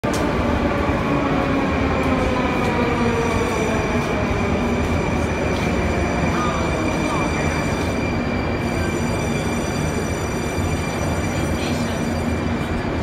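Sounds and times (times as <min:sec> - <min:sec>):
metro train rumbling: 0:00.0 - 0:13.0
train whining tones: 0:00.1 - 0:13.0.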